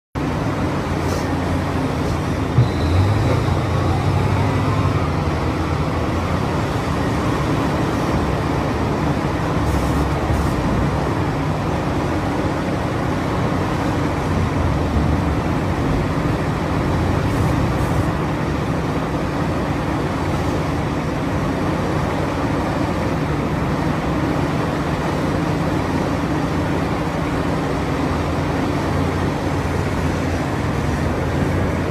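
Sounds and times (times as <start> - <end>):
excavator diesel engine running: 0.2 - 31.9.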